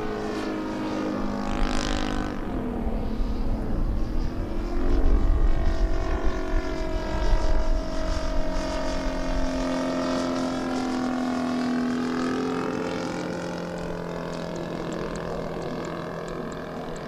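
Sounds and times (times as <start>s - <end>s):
model plane propeller drone: 0.0s - 17.0s.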